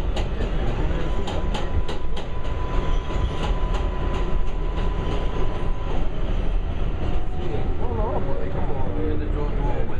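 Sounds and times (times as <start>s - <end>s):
train rumble: 0.0s - 9.9s.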